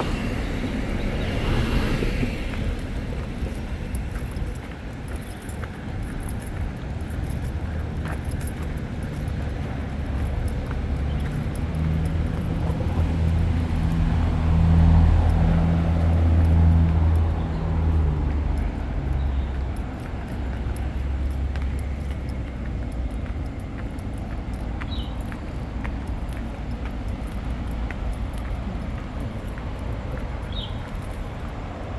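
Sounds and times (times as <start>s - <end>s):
outdoor background noise: 0.0s - 31.9s
passing vehicle engine hum: 0.0s - 31.9s.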